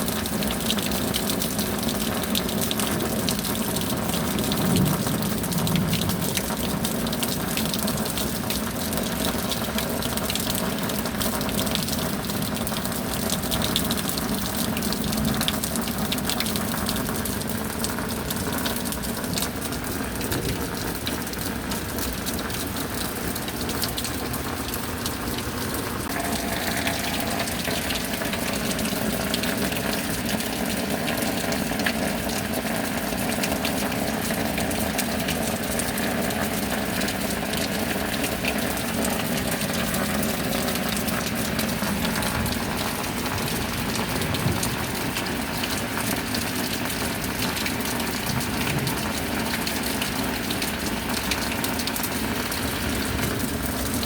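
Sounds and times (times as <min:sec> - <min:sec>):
rain patter: 0:00.0 - 0:54.0
running water rushing: 0:00.0 - 0:54.0.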